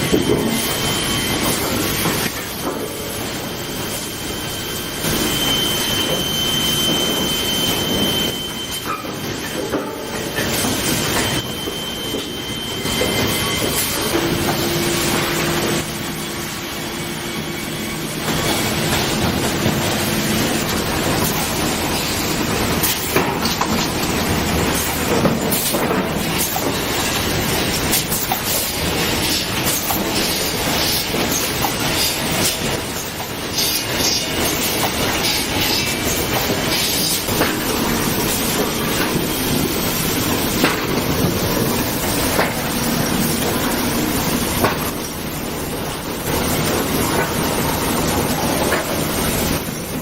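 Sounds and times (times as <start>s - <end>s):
sawmill machinery running: 0.0s - 50.0s.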